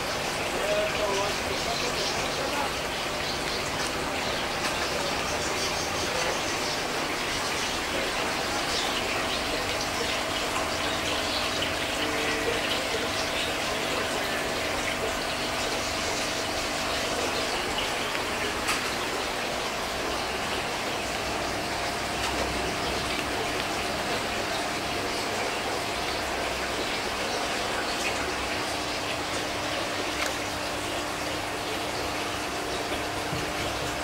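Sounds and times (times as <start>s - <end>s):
aquarium water bubbling: 0.0s - 34.0s.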